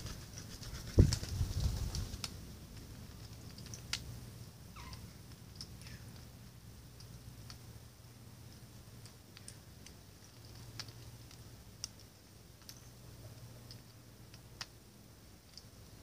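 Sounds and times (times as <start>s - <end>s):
birds pecking on paving stones: 0.0s - 16.0s
faint low hum: 0.0s - 16.0s.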